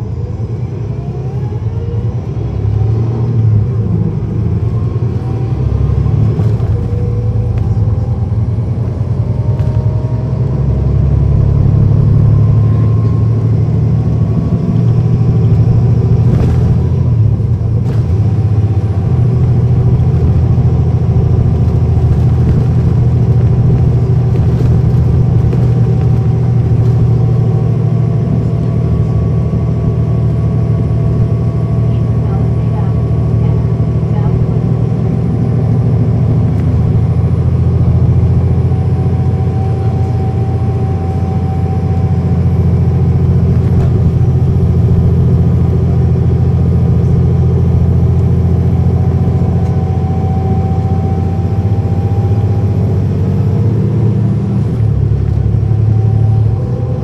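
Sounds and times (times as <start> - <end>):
bus engine deep rumble: 0.0 - 57.0
bus transmission whine: 0.0 - 57.0.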